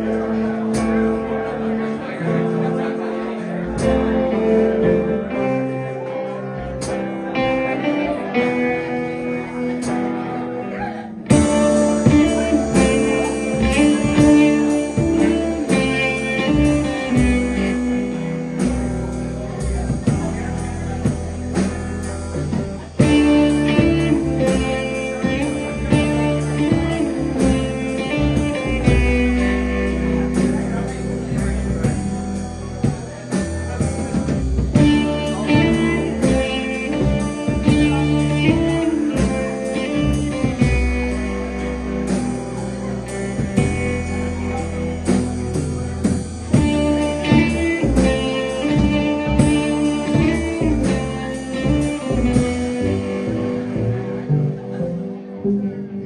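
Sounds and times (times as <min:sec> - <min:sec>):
drums: 0:00.0 - 0:55.9
bass guitar: 0:00.0 - 0:56.0
guitar: 0:00.0 - 0:56.0.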